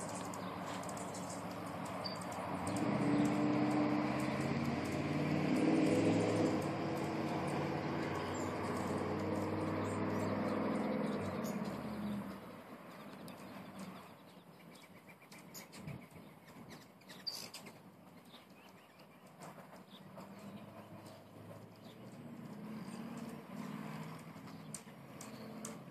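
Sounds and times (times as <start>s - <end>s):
hummingbirds chirping: 0.0s - 25.9s.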